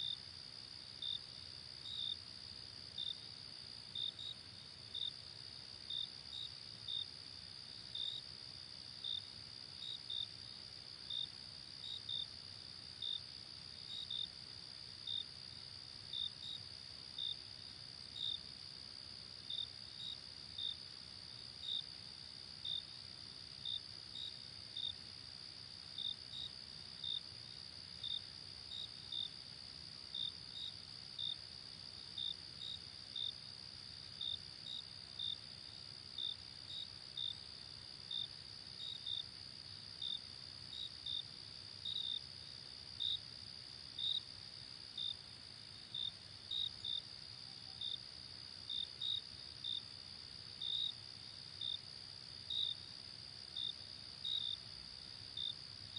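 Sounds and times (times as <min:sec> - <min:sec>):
insect chirps: 0:00.0 - 0:55.9.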